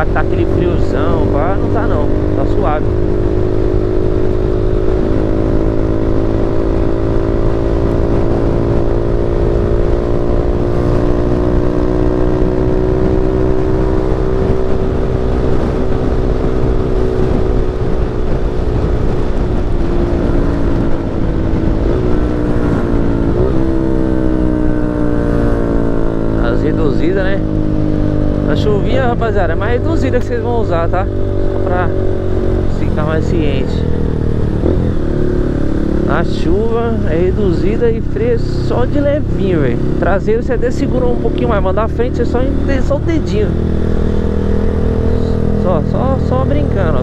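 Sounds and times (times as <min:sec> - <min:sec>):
wind noise: 0:00.0 - 0:41.8, 0:42.4 - 0:47.0
motorcycle engine cruising: 0:00.0 - 0:47.0.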